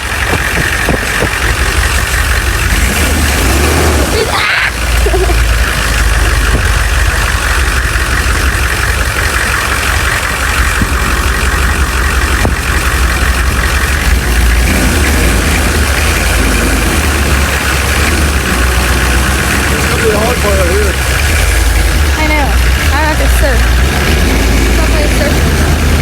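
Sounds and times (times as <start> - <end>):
diesel engine drone: 0.0 - 26.0.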